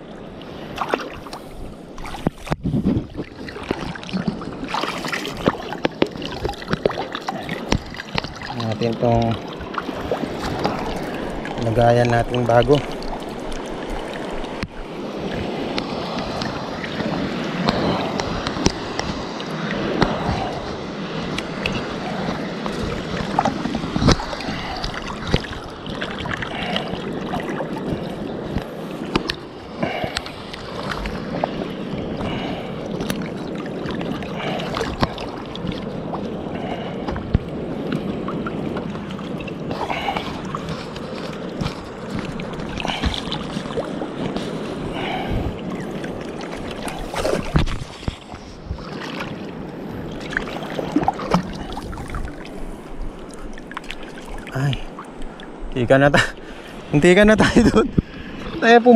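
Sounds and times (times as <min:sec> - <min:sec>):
seawater sloshing at shore: 0:00.0 - 0:58.9.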